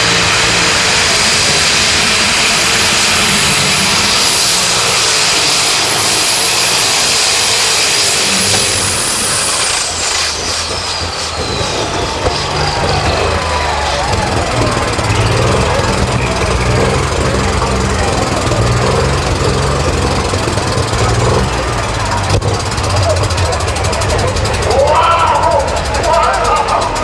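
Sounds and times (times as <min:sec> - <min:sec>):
tractor engine under load: 0:00.0 - 0:27.0.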